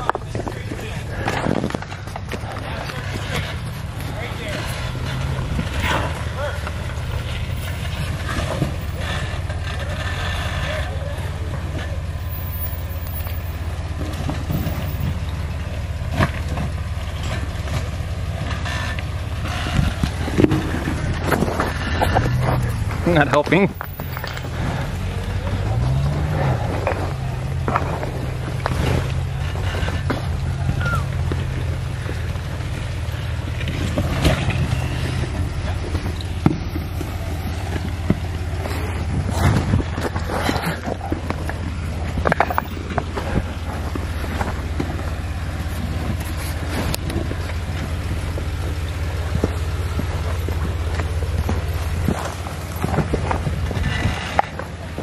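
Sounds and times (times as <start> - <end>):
car engine running low: 0.0 - 55.0.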